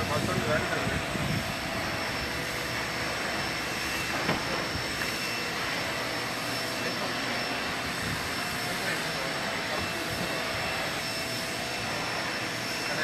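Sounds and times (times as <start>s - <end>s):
city background roar: 0.0s - 13.0s.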